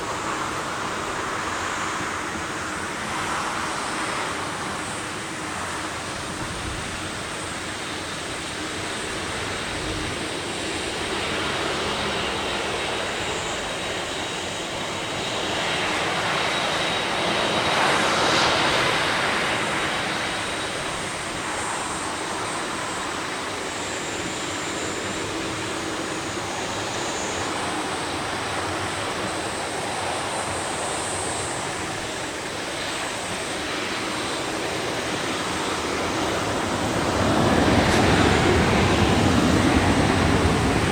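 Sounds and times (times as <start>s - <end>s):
distant jet engines rushing: 0.0s - 40.9s.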